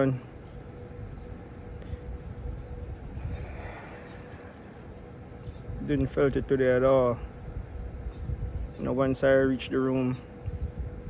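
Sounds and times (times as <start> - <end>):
low rumble: 0.0 - 9.2
faint steady hum: 0.0 - 11.0.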